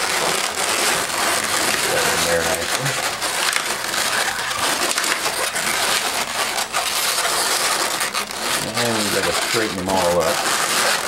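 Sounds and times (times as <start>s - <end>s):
balloons rubbing and crackling: 0.0s - 11.0s.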